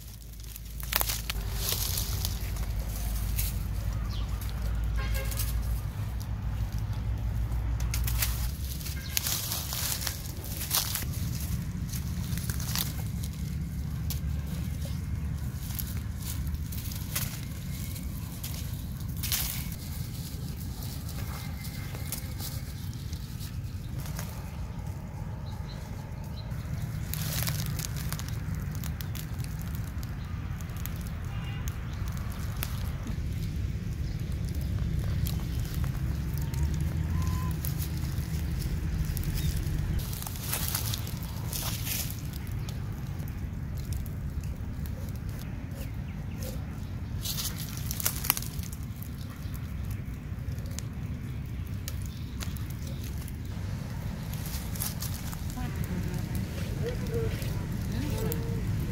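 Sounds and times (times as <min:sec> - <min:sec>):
light clicks and crackles: 0:00.0 - 0:24.9, 0:25.5 - 0:58.9
steady low rumble: 0:00.0 - 0:58.9
sticks and leaves rustling: 0:00.0 - 0:58.9.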